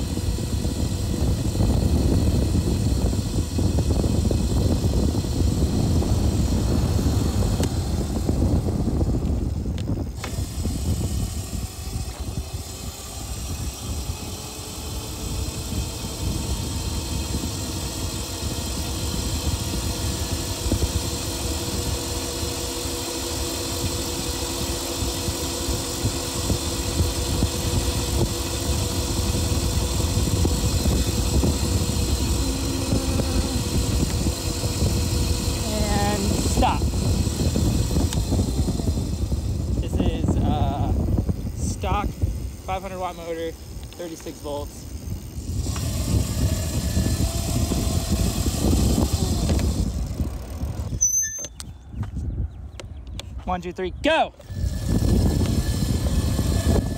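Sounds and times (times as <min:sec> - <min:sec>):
steady traffic hum: 0:00.0 - 0:56.9
vehicle low rumble: 0:00.0 - 0:56.9.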